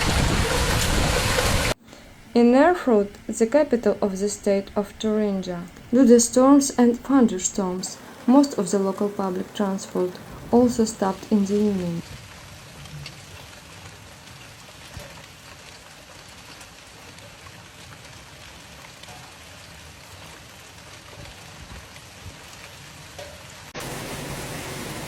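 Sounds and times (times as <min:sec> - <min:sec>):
rain on hard surfaces: 0:00.0 - 0:01.8, 0:04.2 - 0:25.0.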